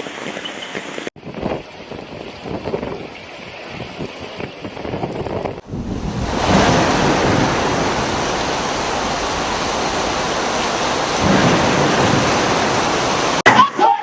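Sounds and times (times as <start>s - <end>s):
rushing water from heavy rain: 0.0s - 13.5s.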